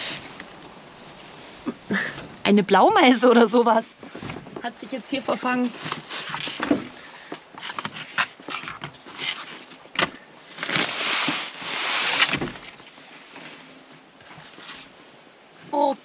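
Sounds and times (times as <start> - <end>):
bedding rustling: 0.0 - 14.9.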